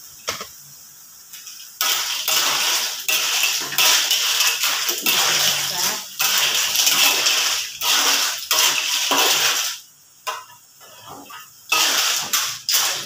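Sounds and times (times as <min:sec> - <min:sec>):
spatula scraping clams in a wok: 0:01.8 - 0:09.7, 0:10.3 - 0:13.0.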